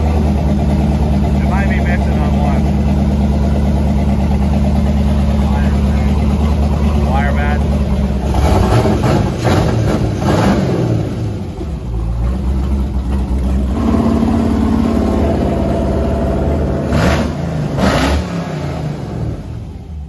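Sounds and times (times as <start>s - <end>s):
engine idling: 0.0s - 20.0s
engine throttle blips: 0.0s - 20.0s.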